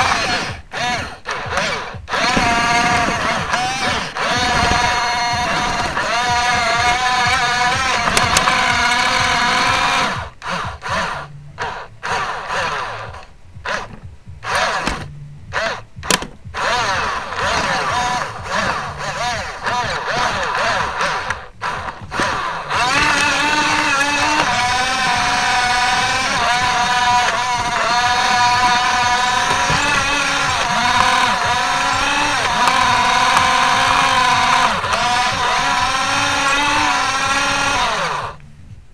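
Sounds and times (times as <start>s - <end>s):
toy electric motor whining: 0.0s - 38.4s.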